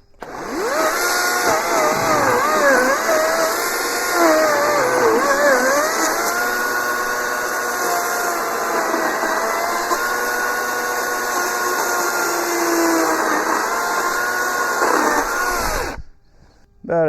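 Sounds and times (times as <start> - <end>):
electric chainsaw cutting wood: 0.0 - 16.1.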